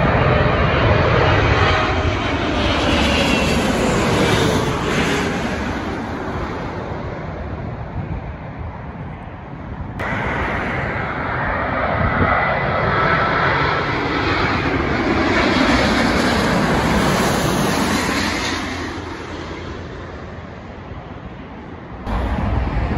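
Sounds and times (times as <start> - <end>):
distant jet rumble: 0.0 - 22.9
jet airliner passing overhead: 0.0 - 22.9.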